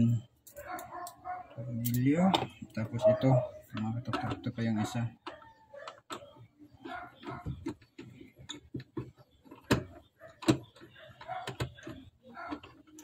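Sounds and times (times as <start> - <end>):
screwdriver clicking and scraping: 0.4 - 13.0.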